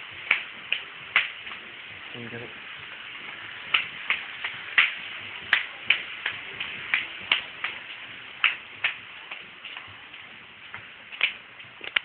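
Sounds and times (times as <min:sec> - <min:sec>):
footsteps on pavement: 0:00.0 - 0:12.0.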